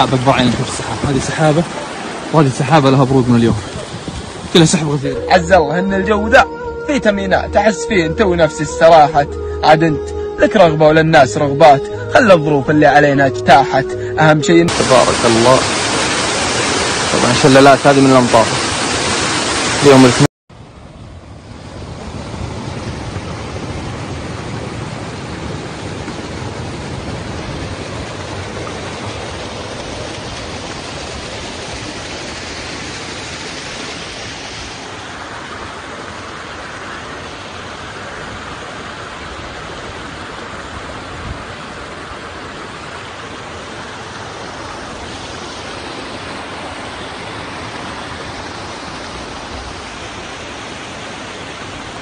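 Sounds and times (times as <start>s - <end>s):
water rushing over rocks: 0.0s - 20.3s, 21.2s - 52.0s.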